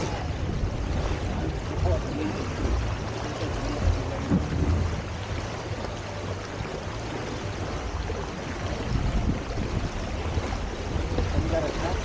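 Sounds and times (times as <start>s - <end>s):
water rushing past hulls: 0.0s - 12.0s
wind buffeting microphone: 0.0s - 12.0s.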